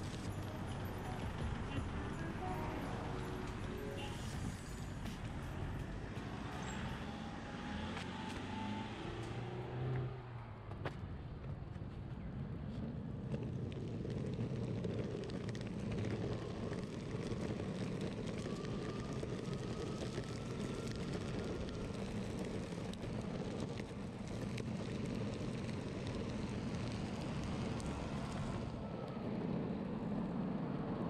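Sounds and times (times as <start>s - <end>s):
wind and road rumble: 0.0s - 31.0s.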